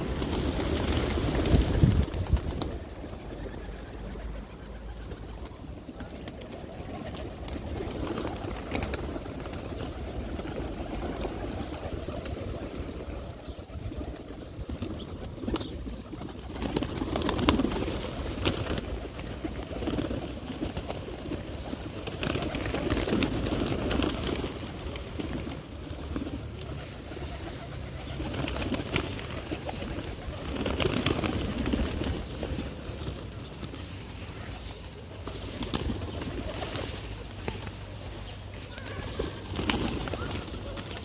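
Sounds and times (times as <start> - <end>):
pigeons cooing: 0.0 - 41.0.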